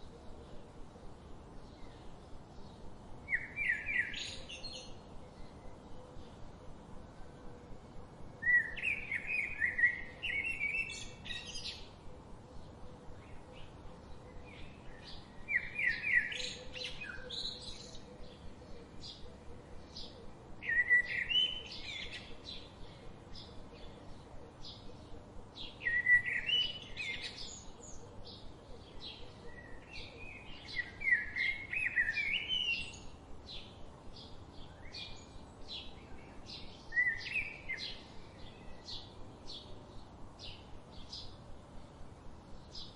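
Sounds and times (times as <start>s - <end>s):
bird warbling song: 1.6s - 6.9s, 8.4s - 41.5s.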